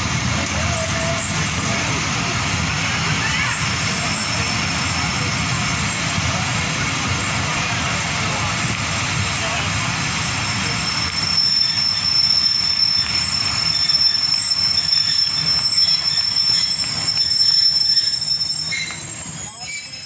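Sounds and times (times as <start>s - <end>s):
low train rumble: 0.0s - 20.0s
train brakes squealing: 0.0s - 20.0s.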